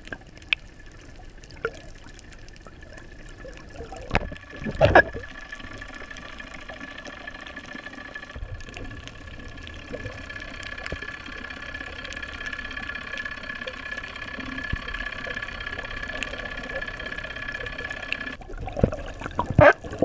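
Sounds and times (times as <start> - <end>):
faint clicks: 0.0 - 18.4
boat engine whine underwater: 0.0 - 20.0
water rushing: 0.0 - 20.0.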